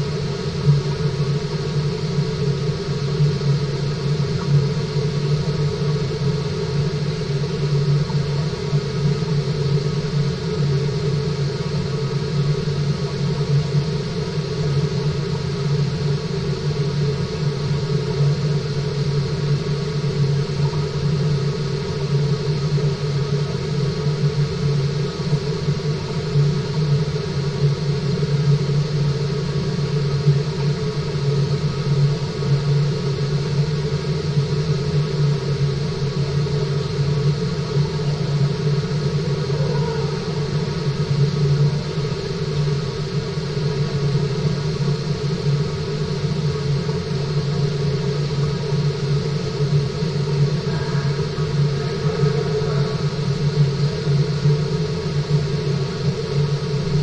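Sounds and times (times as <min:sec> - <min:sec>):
fish tank circulation hum: 0:00.0 - 0:57.0.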